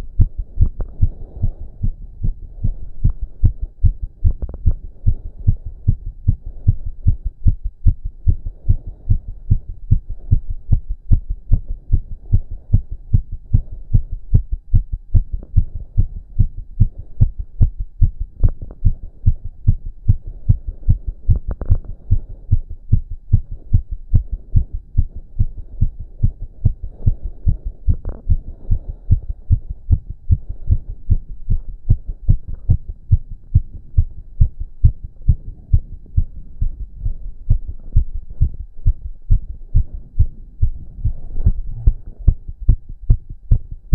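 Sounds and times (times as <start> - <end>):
fast heartbeat thumps: 0.0 - 43.9.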